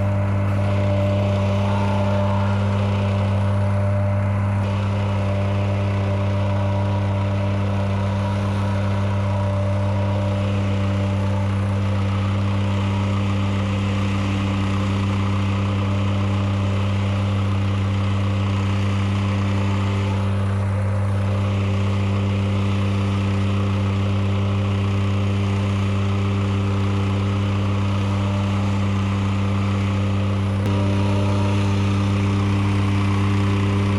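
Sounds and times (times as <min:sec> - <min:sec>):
plate compactor engine drone: 0:00.0 - 0:33.9.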